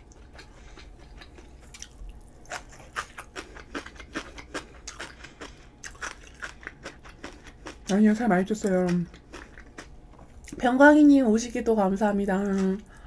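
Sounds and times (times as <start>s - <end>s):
person chewing kimchi: 0.0s - 10.6s.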